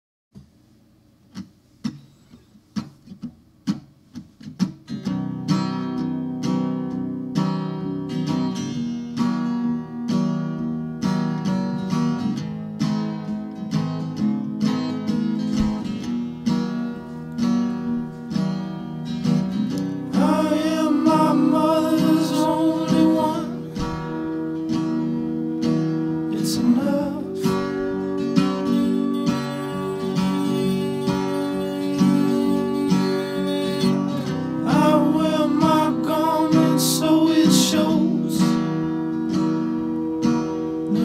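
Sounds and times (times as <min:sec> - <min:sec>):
acoustic guitar music: 0:00.4 - 0:41.0.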